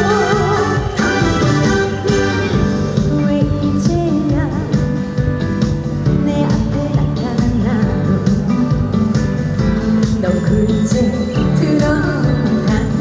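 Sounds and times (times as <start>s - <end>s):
amplified backing music: 0.0s - 13.0s
woman singing: 0.0s - 13.0s.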